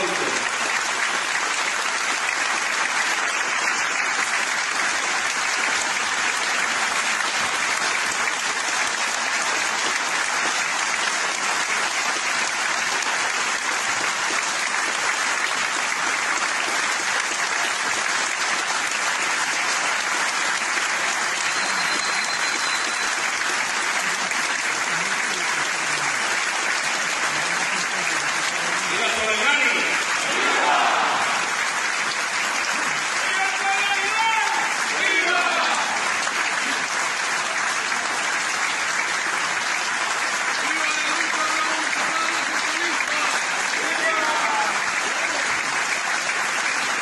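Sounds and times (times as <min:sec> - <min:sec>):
large crowd applauding: 0:00.0 - 0:47.0.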